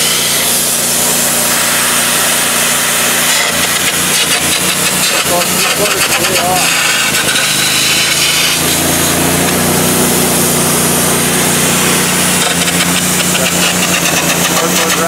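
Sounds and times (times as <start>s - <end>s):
electric arc burning: 0.0s - 15.0s
welder engine humming: 0.0s - 15.0s.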